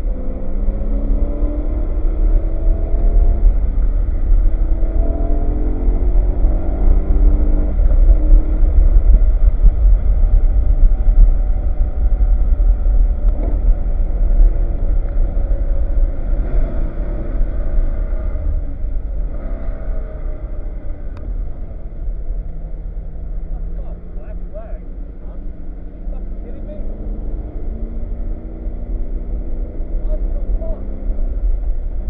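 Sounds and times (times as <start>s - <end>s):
racing car engine revving: 0.0s - 32.0s.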